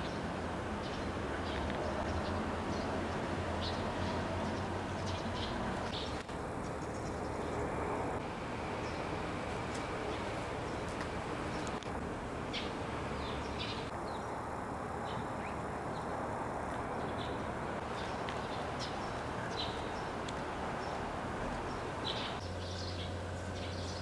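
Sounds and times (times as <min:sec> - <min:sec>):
outdoor background rush: 0:00.0 - 0:24.0.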